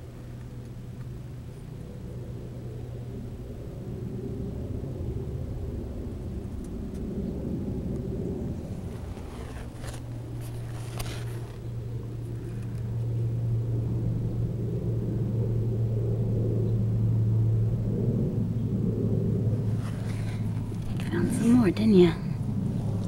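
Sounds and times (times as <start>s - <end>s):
low rumble: 0.0s - 23.0s
mechanical hum: 0.0s - 23.0s.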